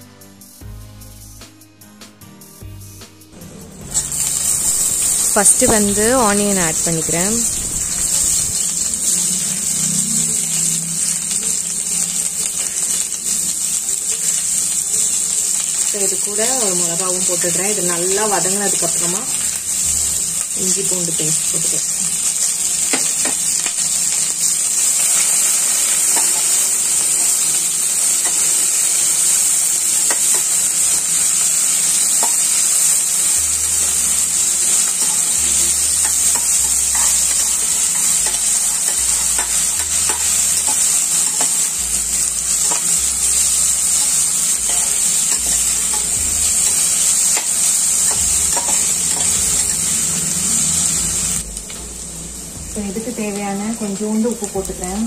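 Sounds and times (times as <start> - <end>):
onions sizzling in oil: 3.4 - 55.0.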